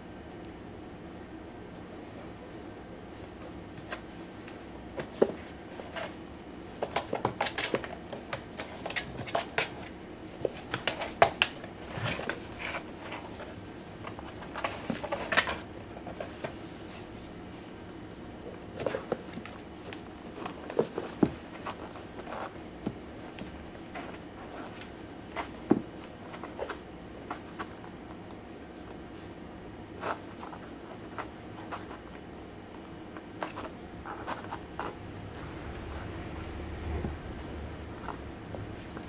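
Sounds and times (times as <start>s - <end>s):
cats scratching in cardboard box: 3.4s - 17.6s, 18.2s - 28.1s, 30.0s - 39.0s.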